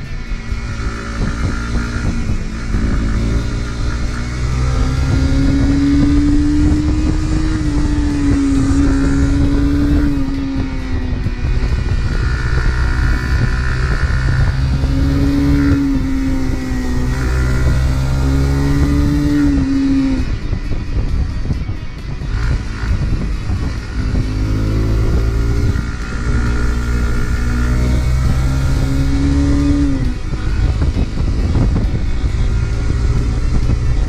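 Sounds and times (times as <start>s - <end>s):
motorcycle engine running: 0.0s - 34.0s
wind rushing: 0.0s - 34.0s.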